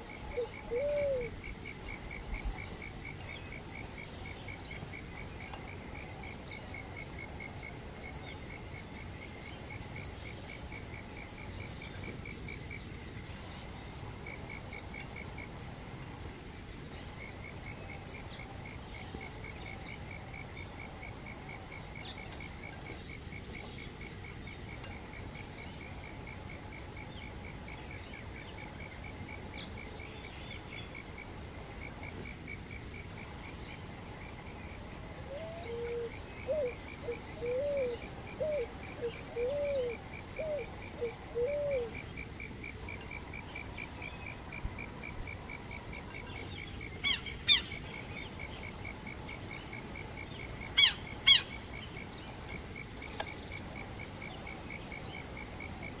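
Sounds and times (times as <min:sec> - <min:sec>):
insect high-pitched buzz: 0:00.0 - 0:56.0
rhythmic insect chirping: 0:00.0 - 0:56.0.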